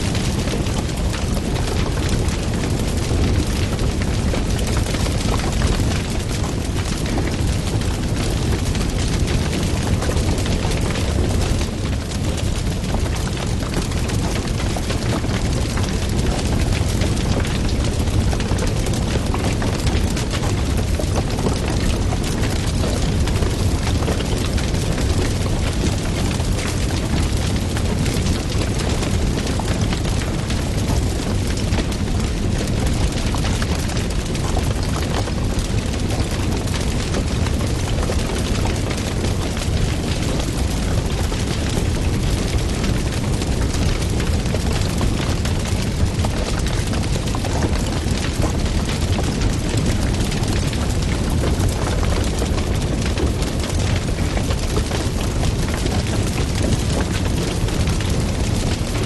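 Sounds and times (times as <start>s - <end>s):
wood fire roaring and crackling: 0.0s - 59.0s.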